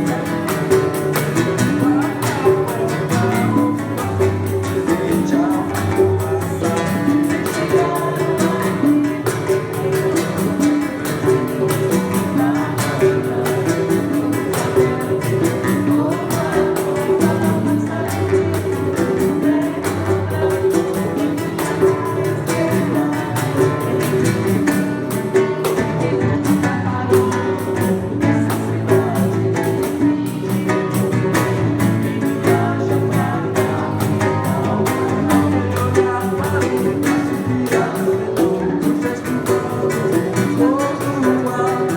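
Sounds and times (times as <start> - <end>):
acoustic guitar strummed: 0.0 - 41.9
hand percussion: 0.0 - 41.9
person singing: 0.0 - 41.9.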